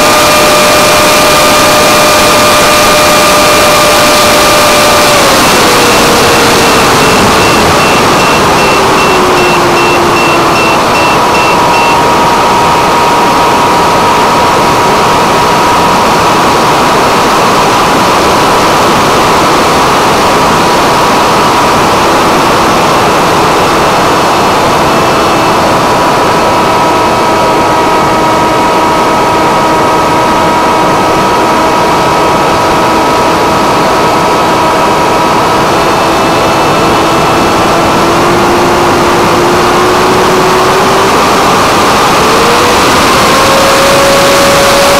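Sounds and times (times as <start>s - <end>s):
electric motor and propeller whining: 0.0s - 44.9s.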